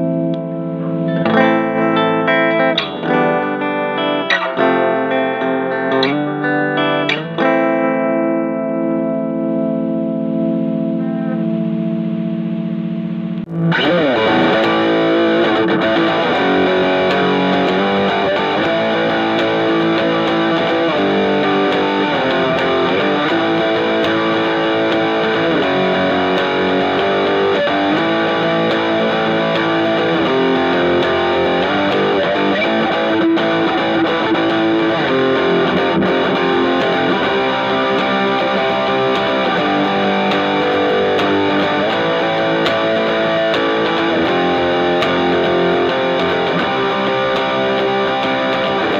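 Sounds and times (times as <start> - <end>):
electric guitar strumming chords: 0.0 - 48.9.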